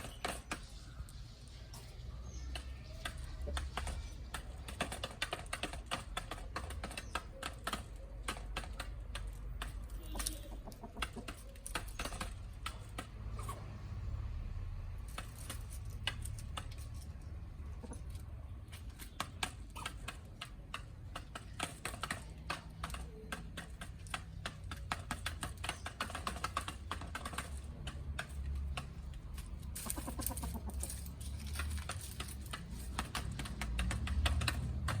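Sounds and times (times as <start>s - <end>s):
beaks pecking feed: 0.0s - 13.8s, 15.1s - 35.0s
chickens clucking: 0.0s - 14.0s, 15.4s - 35.0s.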